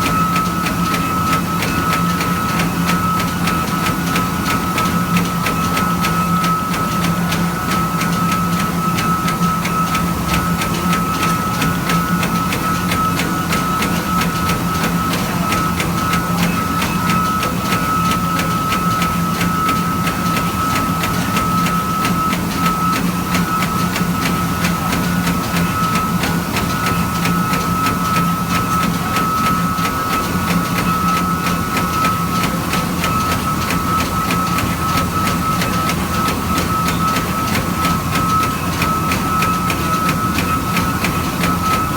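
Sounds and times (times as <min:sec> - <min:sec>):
machine high whine: 0:00.0 - 0:41.9.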